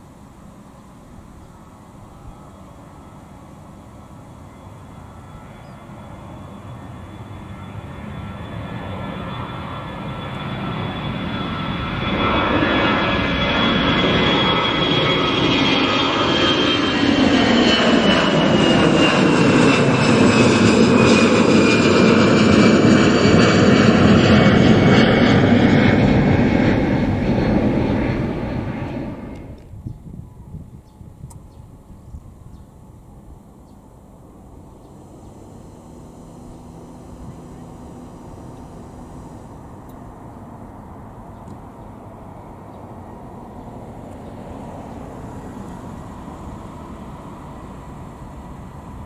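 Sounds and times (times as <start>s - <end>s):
high engine whine: 0.0s - 49.0s
jet engines roaring at takeoff: 0.0s - 49.0s.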